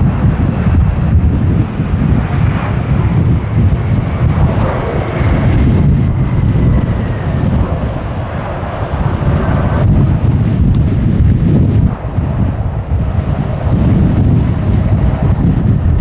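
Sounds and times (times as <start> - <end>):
faint high jet whine: 0.0 - 16.0
jet engines rumbling: 0.0 - 16.0.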